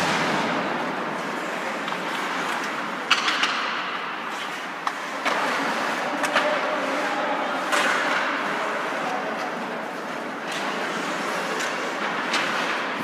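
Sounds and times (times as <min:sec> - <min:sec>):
hockey sticks clacking on puck: 0:00.0 - 0:13.0
skates scraping ice: 0:00.0 - 0:13.0.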